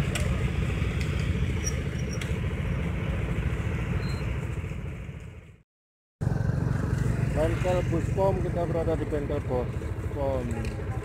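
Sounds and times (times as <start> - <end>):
motorcycle engines idling: 0.0 - 5.6, 6.2 - 11.0.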